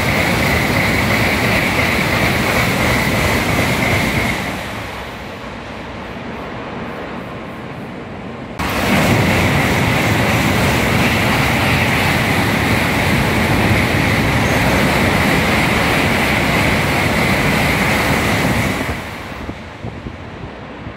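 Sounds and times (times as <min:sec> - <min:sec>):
train rushing past: 0:00.0 - 0:20.9.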